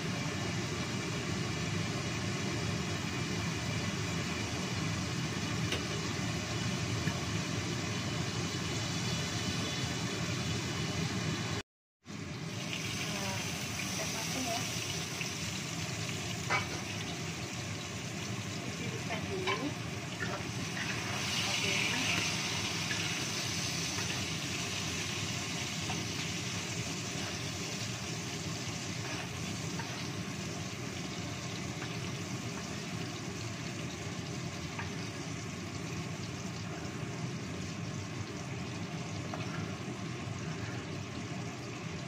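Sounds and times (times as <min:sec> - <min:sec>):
chilies sizzling in oil: 0:00.0 - 0:42.0.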